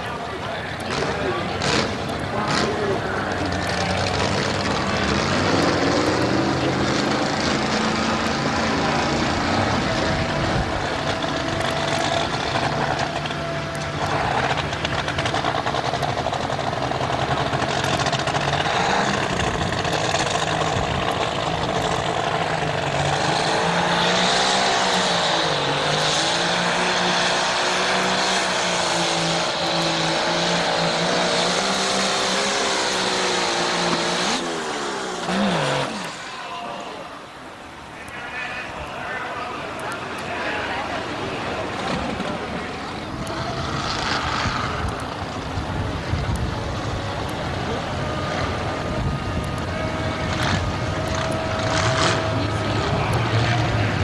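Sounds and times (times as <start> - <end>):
tractor engine running hard: 0.0 - 54.0.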